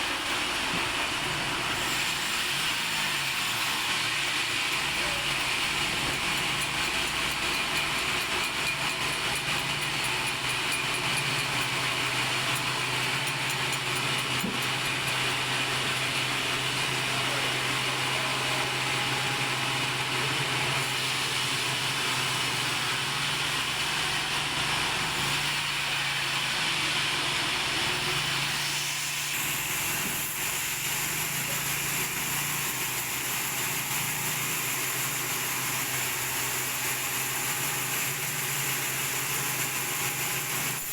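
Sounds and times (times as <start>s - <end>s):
saw hissing through wood: 0.0s - 40.9s.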